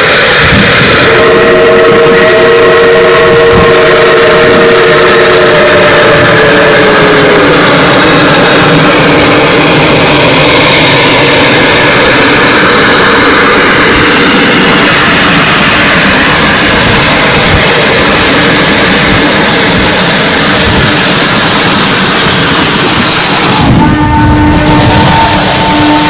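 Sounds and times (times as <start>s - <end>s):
steam locomotive rushing: 0.0s - 26.0s
steam whistle blast: 0.0s - 26.0s.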